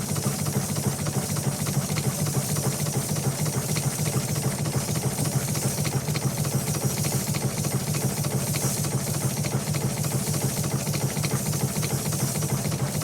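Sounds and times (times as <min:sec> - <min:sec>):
hiss: 0:00.0 - 0:13.0.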